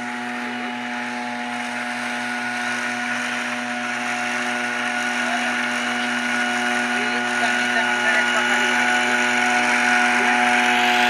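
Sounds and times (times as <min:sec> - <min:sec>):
cutter shearing bushes: 0:00.0 - 0:11.0
small engine running: 0:00.0 - 0:11.0.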